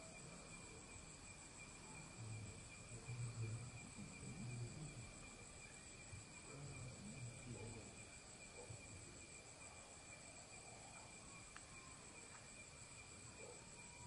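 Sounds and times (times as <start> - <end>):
crickets and night insects chirring: 0.0 - 14.0.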